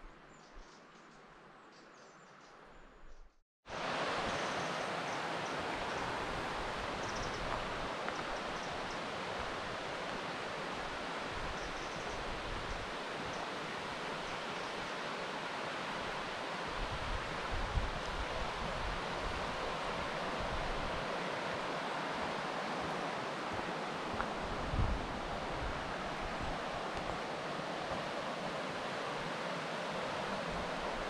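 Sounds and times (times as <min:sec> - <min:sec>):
rushing river water: 0:03.7 - 0:31.0.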